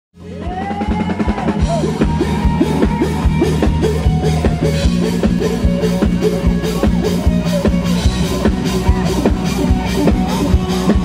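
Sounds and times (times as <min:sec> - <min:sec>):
bass guitar: 0:00.1 - 0:11.0
drum kit beat: 0:00.2 - 0:11.0
electric guitar lead: 0:00.2 - 0:11.0.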